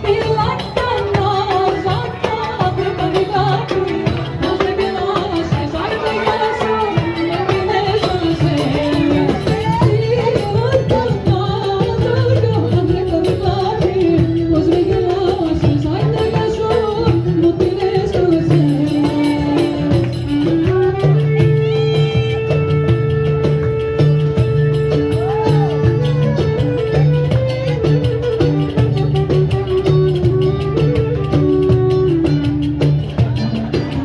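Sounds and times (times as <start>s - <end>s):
folk music with sliding melody: 0.0s - 34.0s.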